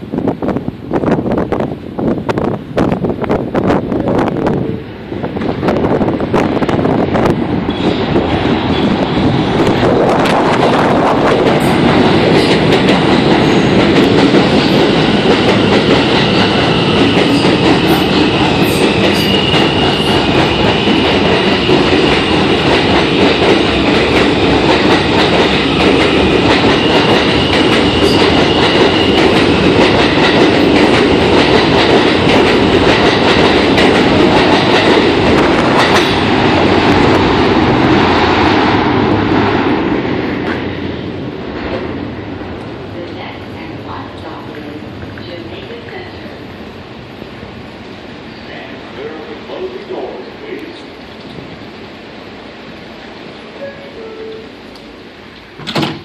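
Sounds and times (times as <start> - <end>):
subway train rumbling past: 0.0 - 56.0.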